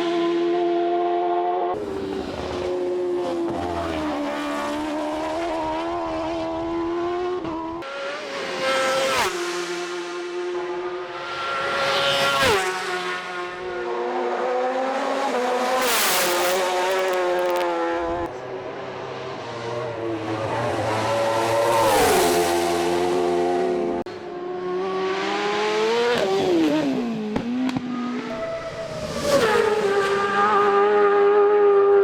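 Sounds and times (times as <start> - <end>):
racing motorcycles passing: 0.0 - 32.0.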